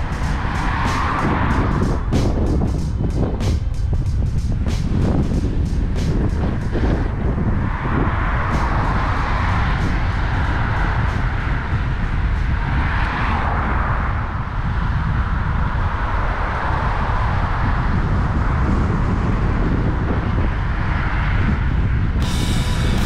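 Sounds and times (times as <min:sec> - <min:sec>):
road and tyre noise: 0:00.0 - 0:23.0
wind rushing over microphone: 0:00.0 - 0:23.0.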